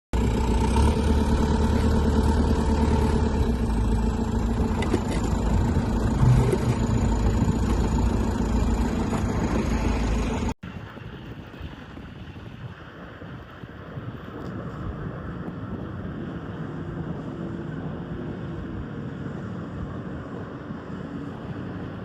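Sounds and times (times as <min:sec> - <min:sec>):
vehicle engine rumbling: 0:00.1 - 0:12.2, 0:14.2 - 0:22.0.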